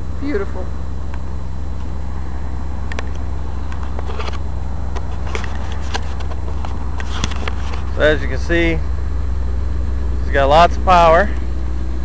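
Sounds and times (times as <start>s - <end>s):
engine rumbling steadily: 0.0s - 12.0s.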